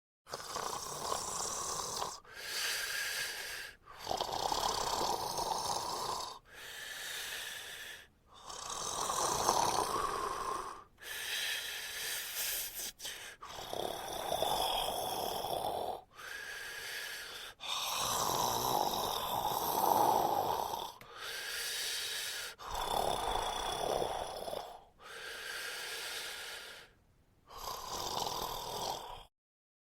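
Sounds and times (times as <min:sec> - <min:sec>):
man snoring: 0:00.3 - 0:29.3.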